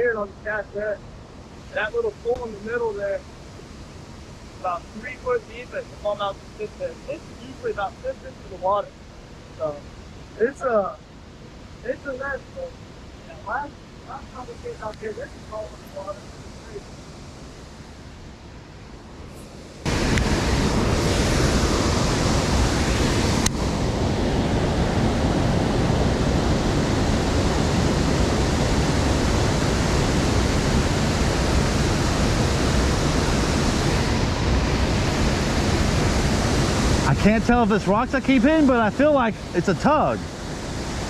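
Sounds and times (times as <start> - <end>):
creek water rushing: 0.0 - 41.0
waterfall: 0.0 - 41.0.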